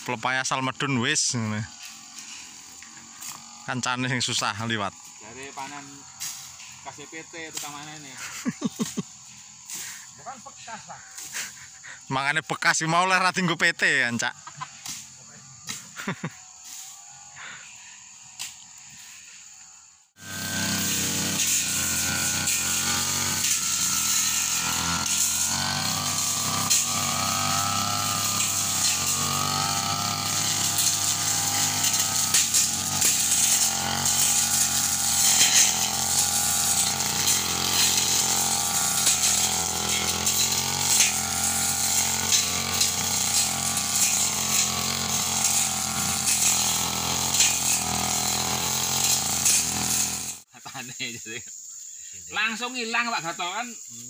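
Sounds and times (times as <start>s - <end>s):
brush cutter engine running: 0.0s - 50.5s.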